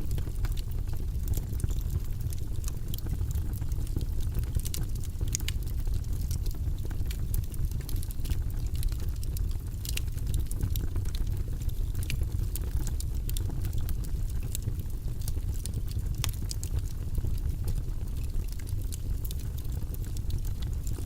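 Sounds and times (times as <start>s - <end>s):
wood fire burning: 0.0s - 21.0s.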